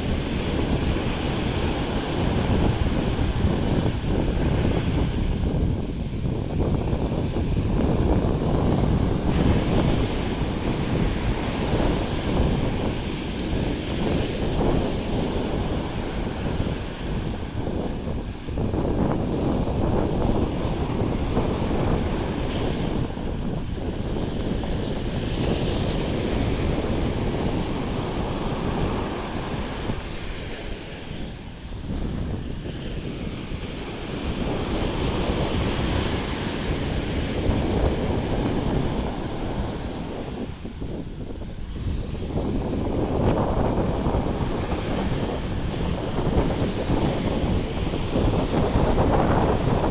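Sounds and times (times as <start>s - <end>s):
sea waves washing ashore: 0.0s - 49.9s
wind buffeting microphone: 0.0s - 49.9s.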